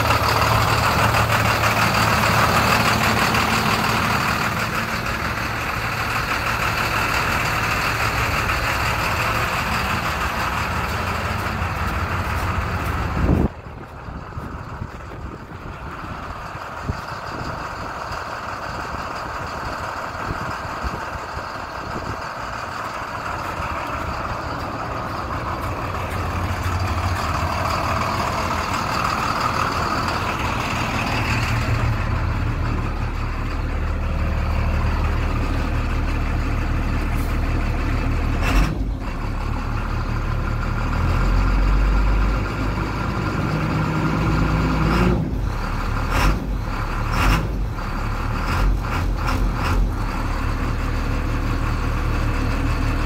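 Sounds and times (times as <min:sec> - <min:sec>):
bus engine idling: 0:00.0 - 0:53.0.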